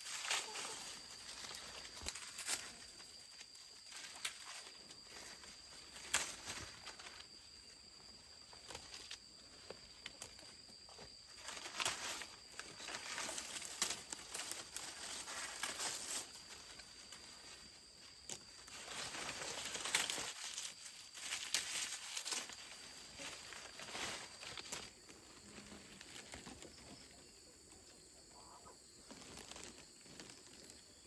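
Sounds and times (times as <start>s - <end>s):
dry corn husks rustling: 0.0s - 31.0s.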